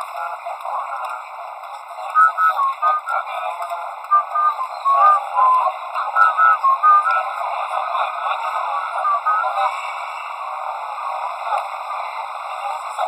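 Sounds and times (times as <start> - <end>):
people calling and chatting: 0.0 - 13.0.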